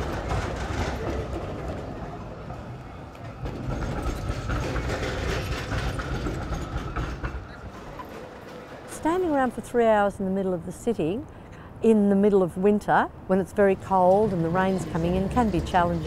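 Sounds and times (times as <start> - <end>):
tram rumbling on rails: 0.0 - 11.2, 12.5 - 16.0
street noise: 0.0 - 16.0.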